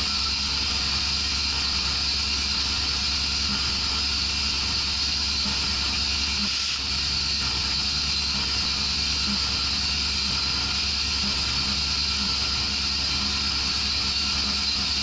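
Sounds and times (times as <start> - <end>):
milling machine cutting metal: 0.0 - 15.0.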